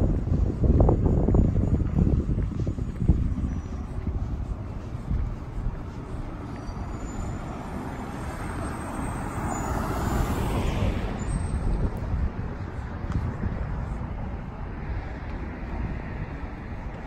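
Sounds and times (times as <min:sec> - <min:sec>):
street traffic rumble: 0:00.0 - 0:17.0
vehicle passing: 0:00.0 - 0:17.0.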